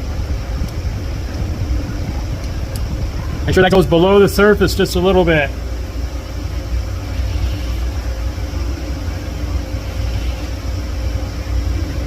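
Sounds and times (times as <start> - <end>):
faint constant hum: 0.0 - 12.0
low rumble: 0.0 - 12.0.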